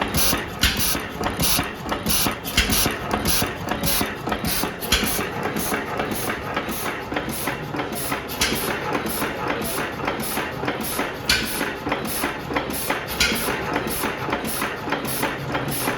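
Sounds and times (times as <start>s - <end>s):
stationary gas engine clattering: 0.0s - 15.9s.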